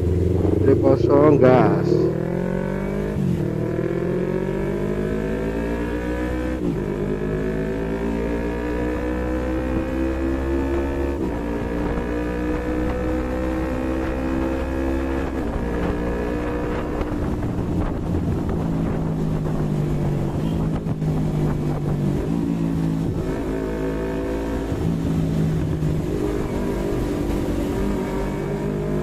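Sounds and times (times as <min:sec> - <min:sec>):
motorcycle engine while riding: 0:00.0 - 0:29.0.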